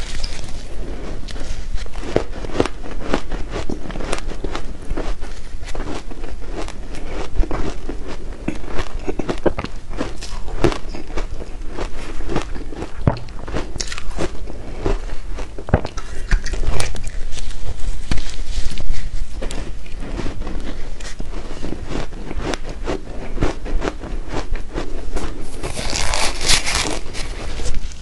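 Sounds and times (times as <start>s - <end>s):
crunchy ice chewing: 0.0s - 27.7s.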